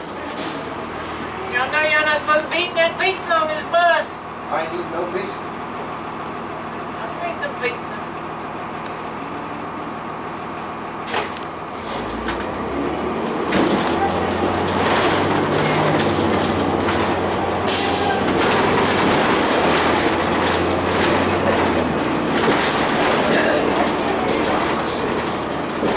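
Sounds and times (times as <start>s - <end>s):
bus diesel engine running: 0.0s - 25.9s
road noise: 0.0s - 25.9s.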